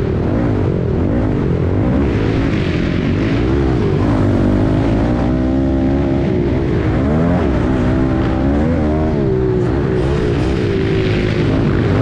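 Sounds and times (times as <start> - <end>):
dirt bike engine revving: 0.0 - 12.0
wind and chassis rumble: 0.0 - 12.0.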